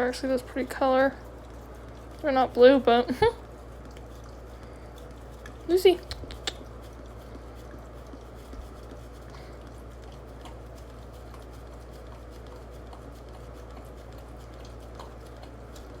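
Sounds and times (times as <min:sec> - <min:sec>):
dog licking: 0:00.0 - 0:16.0.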